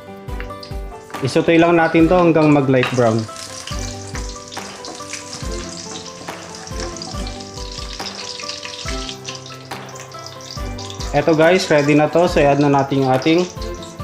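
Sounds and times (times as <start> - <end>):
background music with beat: 0.0 - 14.0
garlic sizzling in oil: 0.3 - 14.0.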